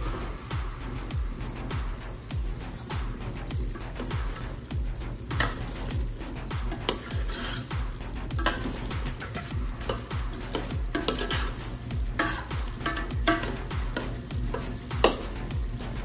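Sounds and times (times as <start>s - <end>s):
background music with beat: 0.0s - 16.0s
simmering sauce hiss: 0.0s - 16.0s
ladle scraping metal pot: 2.5s - 16.0s.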